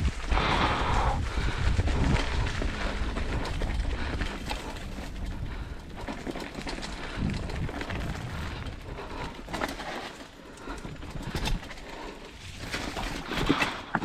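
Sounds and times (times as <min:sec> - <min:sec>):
bike clattering over bumps: 0:00.0 - 0:14.0
bike tyres on loose dirt: 0:00.0 - 0:14.0.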